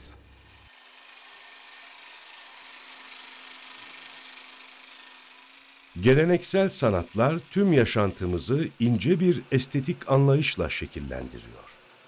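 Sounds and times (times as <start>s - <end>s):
electric power tool humming: 0.0s - 12.0s.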